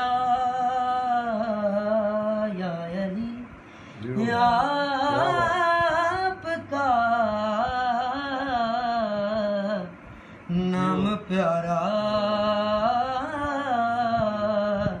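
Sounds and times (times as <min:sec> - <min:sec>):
young man singing devotional song: 0:00.0 - 0:15.0.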